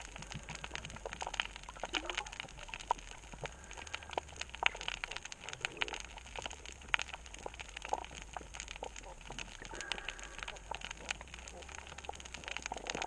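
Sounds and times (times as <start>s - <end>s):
low underwater background: 0.0s - 13.0s.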